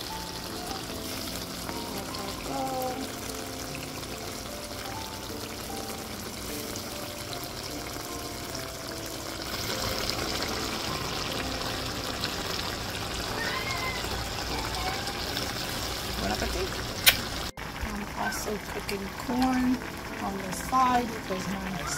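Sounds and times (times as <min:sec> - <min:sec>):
pot bubbling and hissing: 0:00.0 - 0:21.9.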